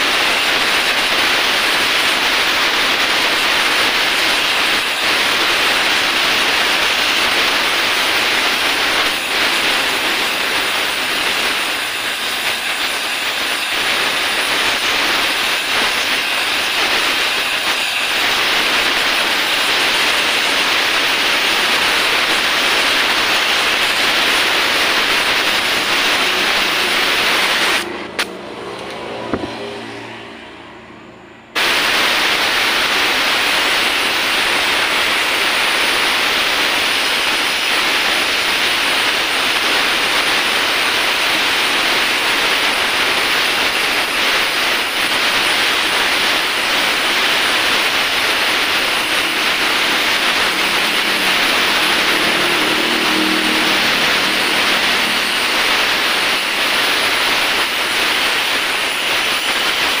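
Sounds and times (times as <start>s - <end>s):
torch flame hissing: 0.0s - 28.3s, 31.6s - 60.0s.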